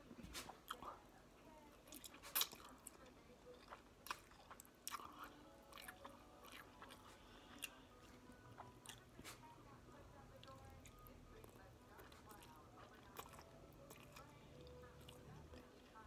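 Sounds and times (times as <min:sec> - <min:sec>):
person chewing food: 0:01.8 - 0:09.5, 0:10.3 - 0:16.0.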